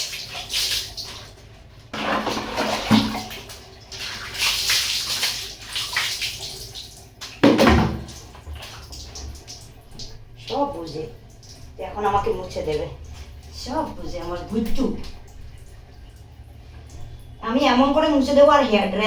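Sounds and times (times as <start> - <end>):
water pouring and splashing: 0.0 - 17.4.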